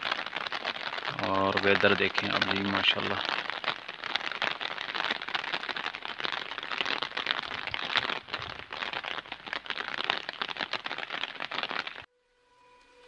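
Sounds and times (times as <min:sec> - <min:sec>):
steady rain falling: 0:00.0 - 0:12.1.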